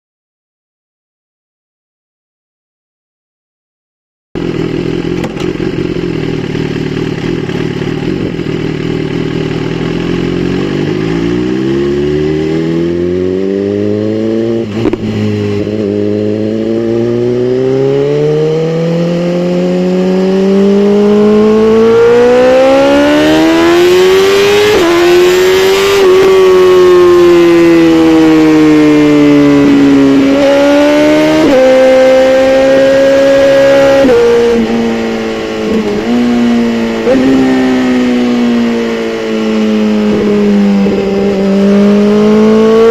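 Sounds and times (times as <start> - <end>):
motorcycle engine revving: 4.4 - 42.9.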